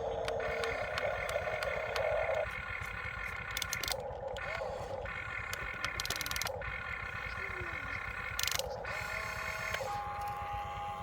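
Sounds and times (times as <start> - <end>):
excavator engine rumble: 0.0 - 11.0
hydraulic whine: 0.0 - 11.0.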